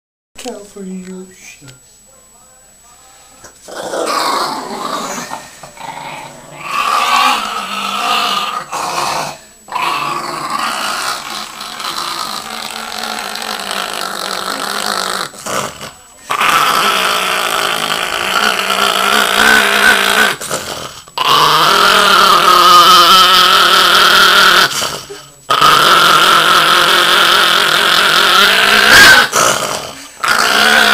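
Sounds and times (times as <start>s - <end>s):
small dog growling: 3.6s - 30.9s.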